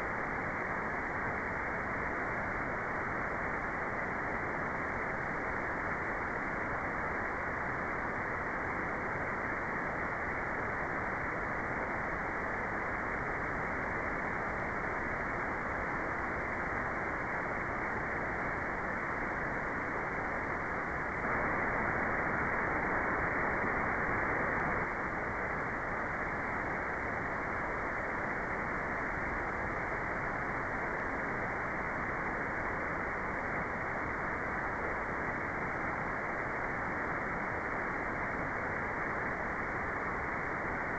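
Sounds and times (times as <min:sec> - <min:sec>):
muffled white noise: 0:00.0 - 0:40.9.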